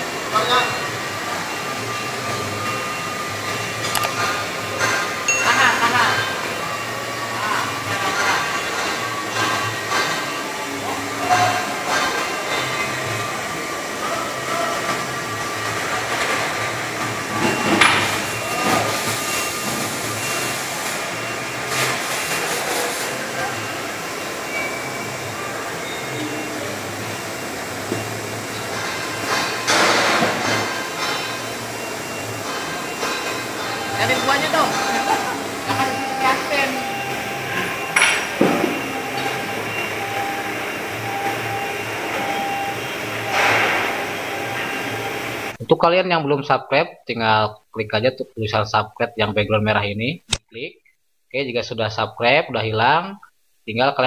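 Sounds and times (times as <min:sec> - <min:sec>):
machinery pulsing hum: 0:00.0 - 0:45.7
steady background noise: 0:00.0 - 0:54.0.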